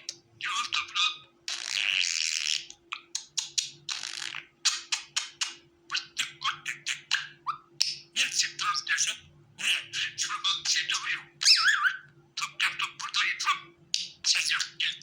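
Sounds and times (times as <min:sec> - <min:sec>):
budgerigar chirping: 0:00.0 - 0:15.0
faint steady hum: 0:00.0 - 0:15.0.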